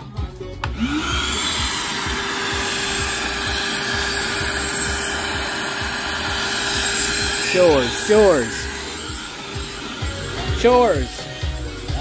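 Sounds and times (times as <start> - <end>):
vacuum cleaner running: 0.6 - 12.0.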